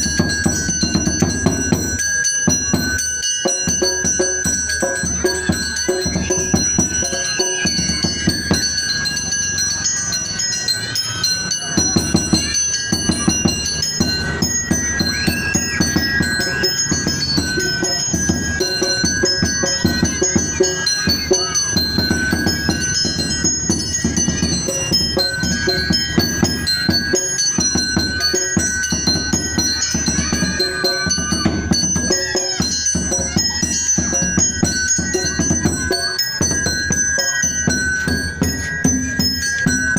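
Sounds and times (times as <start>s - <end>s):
bell-like mallet percussion: 0.0s - 39.9s.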